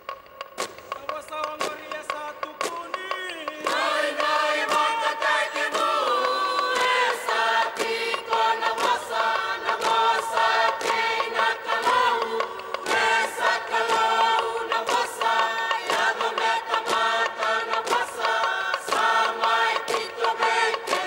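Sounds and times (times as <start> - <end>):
hand claps: 0.0 - 21.0
choir singing in harmony: 2.9 - 21.0.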